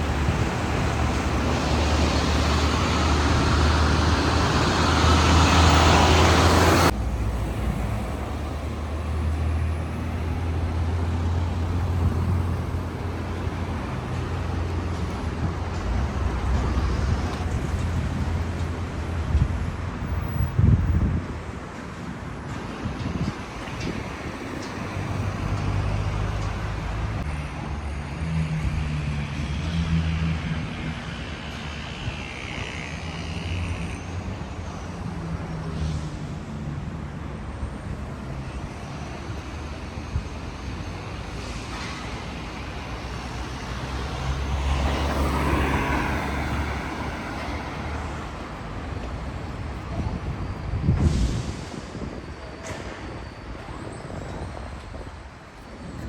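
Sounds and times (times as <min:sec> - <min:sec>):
engine hum: 0:00.0 - 0:21.4, 0:22.5 - 0:52.9
vehicles driving past: 0:00.0 - 0:56.0.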